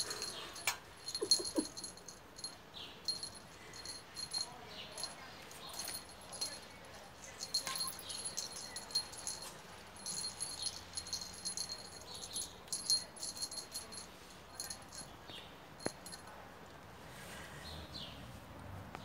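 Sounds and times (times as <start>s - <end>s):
collar bell jingling: 0.0s - 15.2s, 15.8s - 16.4s.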